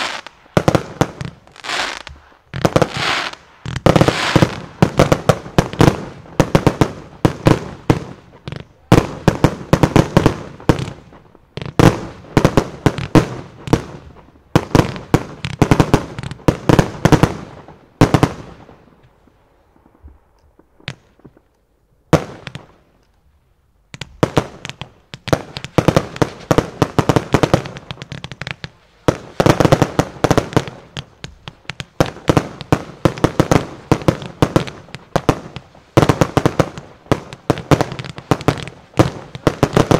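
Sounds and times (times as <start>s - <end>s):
rapid fireworks bangs: 0.0s - 18.8s, 23.9s - 39.9s.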